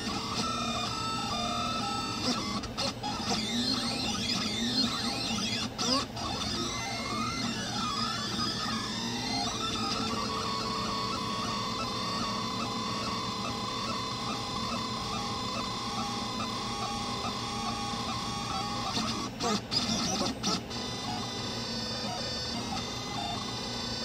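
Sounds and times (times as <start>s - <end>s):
cooling fan hum: 0.0s - 24.0s
stepper motors whining: 0.0s - 24.0s.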